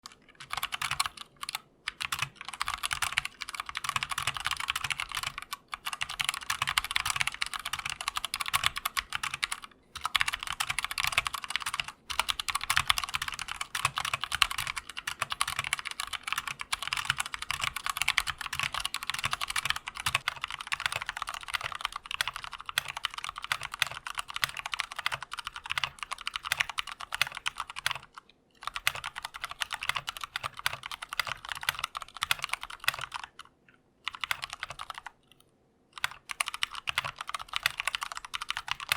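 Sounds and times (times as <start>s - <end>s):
mechanical keyboard typing: 0.0s - 35.4s, 36.0s - 38.9s.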